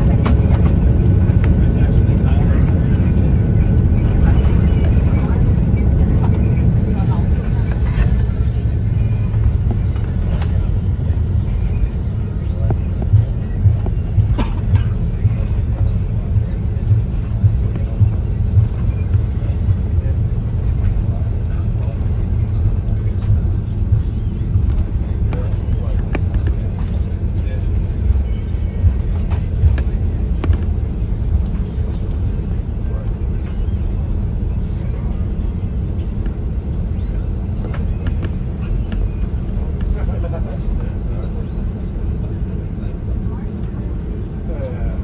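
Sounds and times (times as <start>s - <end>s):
jet landing rumble in cabin: 0.0s - 45.0s.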